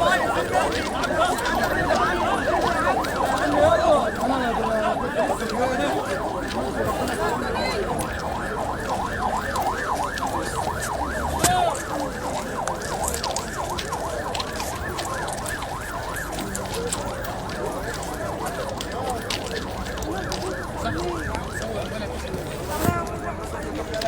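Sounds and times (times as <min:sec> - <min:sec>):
ambulance siren yelping: 0:00.0 - 0:24.0.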